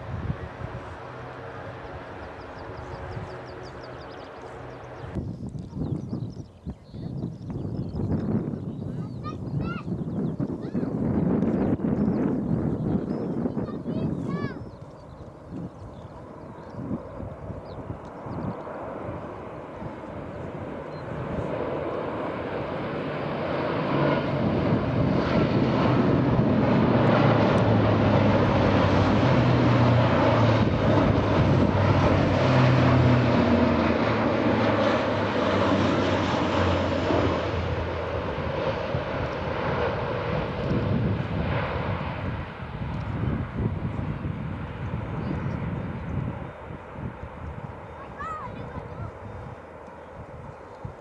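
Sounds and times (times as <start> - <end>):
aircraft engine drone: 0.0 - 51.0.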